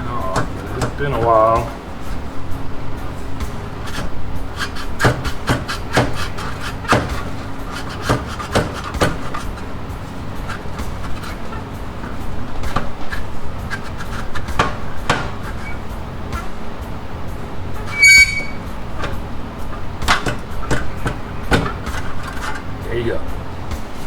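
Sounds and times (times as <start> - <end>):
metal knocks and clunks: 0.0 - 16.9, 17.6 - 22.8
metal scraping and rubbing: 0.0 - 22.9.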